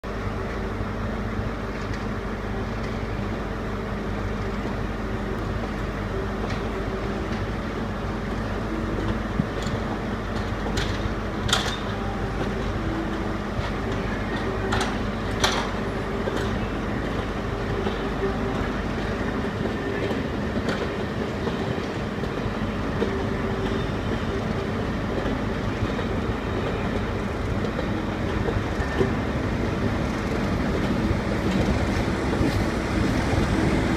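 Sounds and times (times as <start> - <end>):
diesel locomotive engine running: 0.1 - 33.9.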